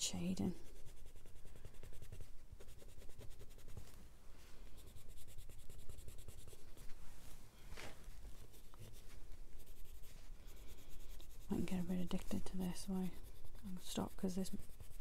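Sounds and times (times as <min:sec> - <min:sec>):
coloured pencil scratching on paper: 0:00.1 - 0:03.8, 0:04.8 - 0:06.8, 0:08.4 - 0:15.0.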